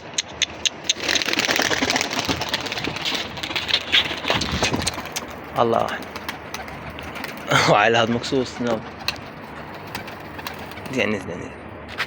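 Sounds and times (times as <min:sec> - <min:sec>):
pigeon wings flapping: 0:00.4 - 0:12.0.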